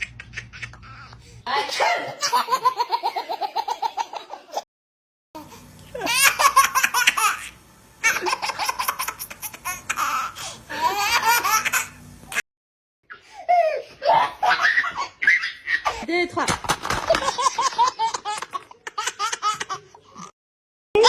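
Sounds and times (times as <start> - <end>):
baby laughing: 0.0 - 4.6, 5.4 - 12.4, 13.1 - 16.0, 16.8 - 20.3.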